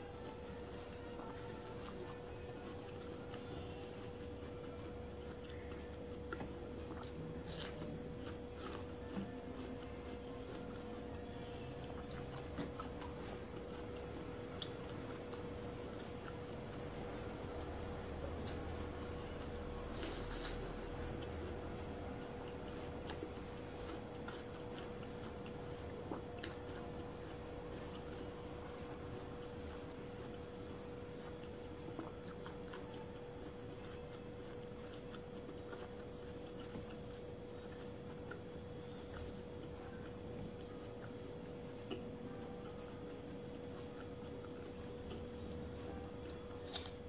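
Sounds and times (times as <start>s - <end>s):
faint steady hum: 0.0s - 47.0s
soft chewing of fruit: 0.0s - 47.0s.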